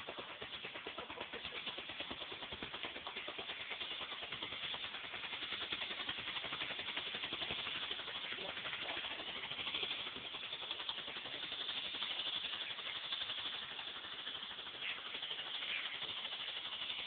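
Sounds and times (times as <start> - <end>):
firework fountain crackling: 0.0 - 17.0.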